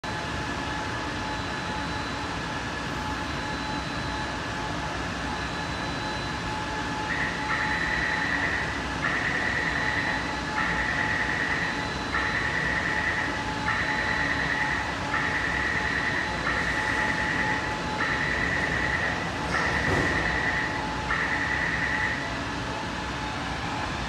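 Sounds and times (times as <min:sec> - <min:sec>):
train equipment humming: 0:00.1 - 0:24.0.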